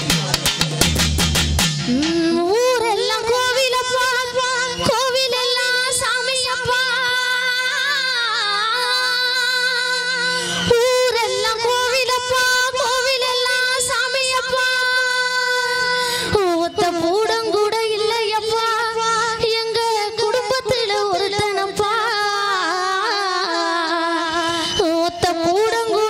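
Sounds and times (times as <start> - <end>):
woman singing into microphone: 1.9 - 26.0.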